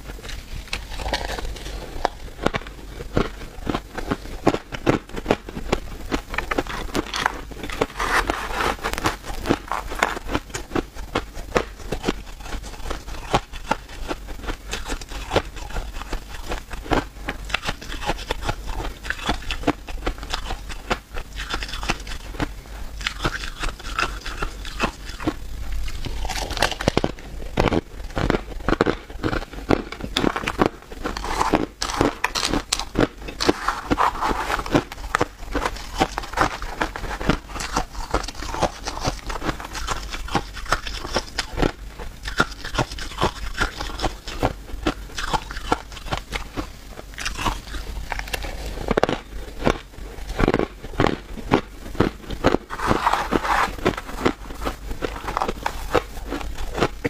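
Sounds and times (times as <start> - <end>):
crunching ice: 0.2 - 22.4, 23.0 - 57.0.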